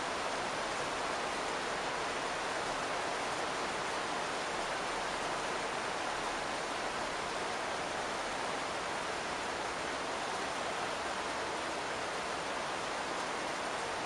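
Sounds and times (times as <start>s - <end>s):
rain on a roof: 0.0s - 14.0s.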